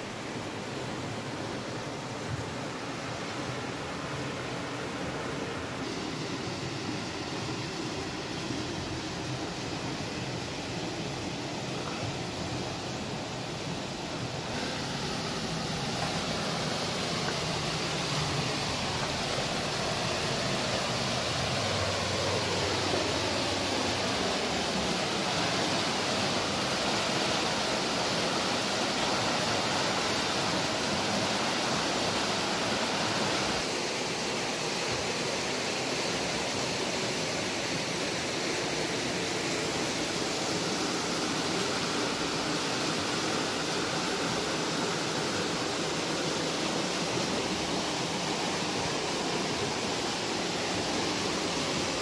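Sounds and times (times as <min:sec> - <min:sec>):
water rushing over rocks: 0:00.0 - 0:52.0.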